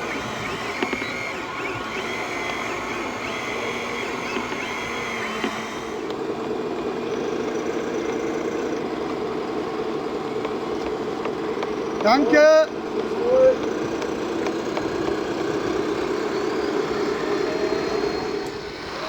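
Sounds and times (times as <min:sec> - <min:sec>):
small motors whining: 0:00.0 - 0:19.0.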